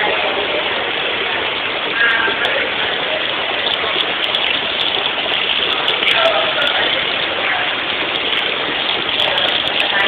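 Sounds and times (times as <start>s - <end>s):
water rushing in tank: 0.0s - 10.0s.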